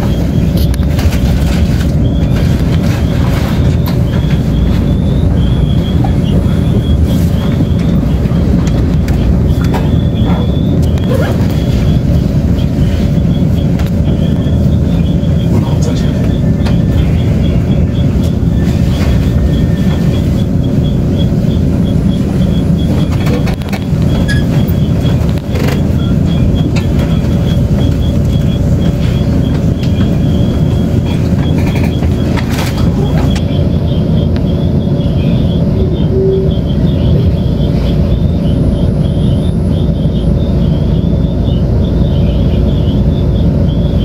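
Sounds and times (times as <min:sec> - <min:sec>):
train rumble inside carriage: 0:00.0 - 0:44.0.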